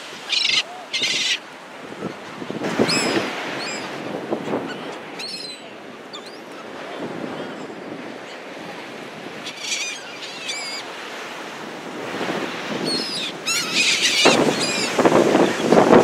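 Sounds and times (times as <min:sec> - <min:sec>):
gulls calling: 0:00.0 - 0:11.2, 0:12.8 - 0:15.9
surf rushing: 0:00.0 - 0:16.0
wind: 0:00.0 - 0:16.0.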